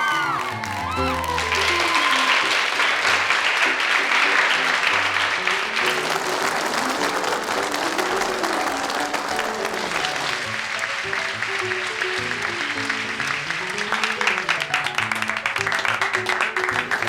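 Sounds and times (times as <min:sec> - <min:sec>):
background music: 0:00.0 - 0:17.0
crowd applauding: 0:00.0 - 0:17.0.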